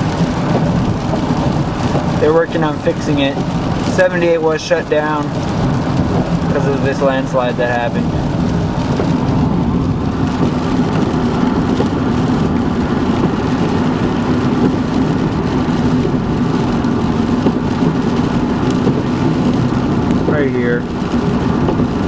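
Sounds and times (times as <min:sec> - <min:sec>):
car tyres and engine drone: 0:00.0 - 0:22.0
rain on a car: 0:00.0 - 0:22.0.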